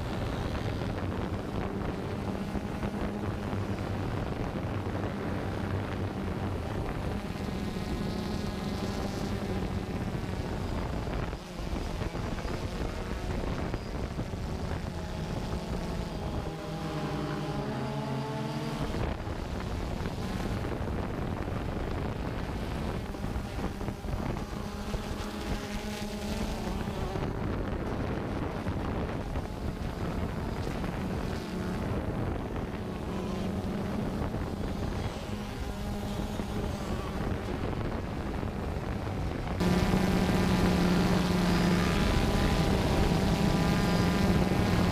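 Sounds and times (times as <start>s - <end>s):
drone propellers humming: 0.0s - 44.9s
wind noise on microphone: 0.0s - 44.9s.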